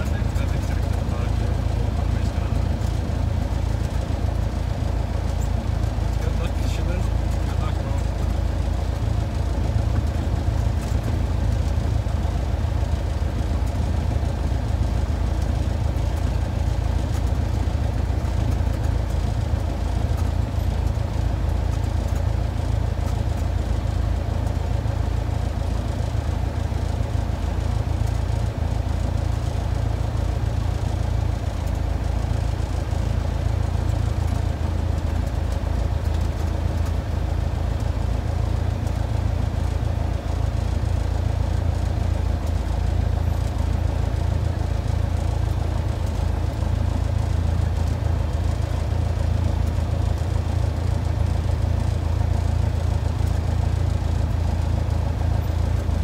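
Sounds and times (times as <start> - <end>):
light aircraft engine and propeller: 0.0 - 56.0.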